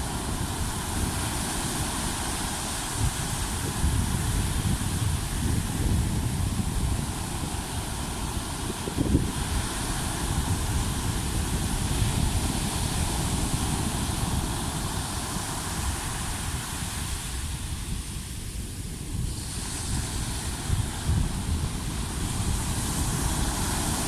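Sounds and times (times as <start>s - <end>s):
sea waves on shore: 0.0s - 24.0s
wind buffeting microphone: 0.0s - 24.0s.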